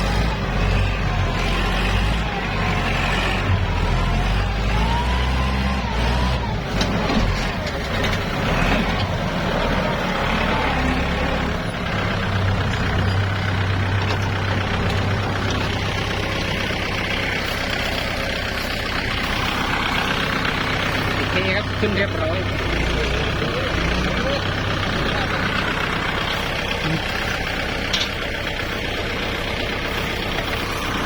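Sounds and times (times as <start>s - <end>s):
diesel tractor engines under load: 0.0s - 31.0s.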